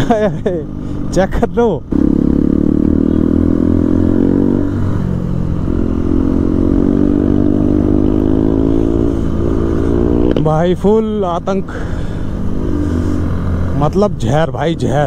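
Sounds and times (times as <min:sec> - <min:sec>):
motorcycle engine accelerating: 0:00.0 - 0:14.7.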